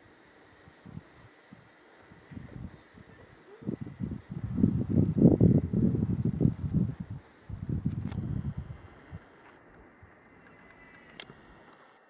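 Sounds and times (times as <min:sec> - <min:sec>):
wind noise on microphone: 0:00.5 - 0:11.6.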